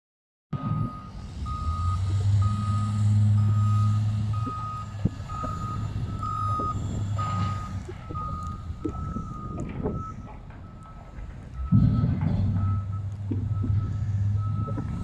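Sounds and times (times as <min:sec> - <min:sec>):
backup alarm beeping: 0:00.6 - 0:15.0
diesel engine running: 0:00.6 - 0:15.0.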